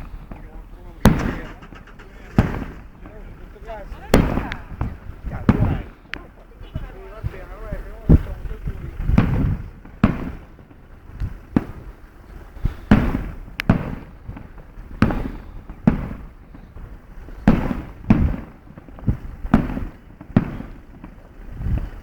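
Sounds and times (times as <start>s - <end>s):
distant fireworks bangs: 0.0s - 22.0s.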